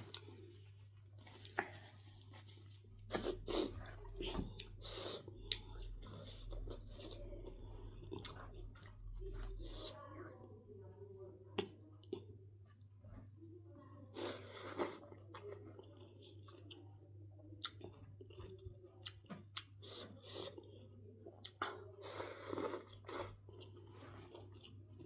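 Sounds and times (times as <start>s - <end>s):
person chewing food: 0.0s - 10.0s, 14.2s - 25.0s
faint low hum: 0.0s - 25.0s.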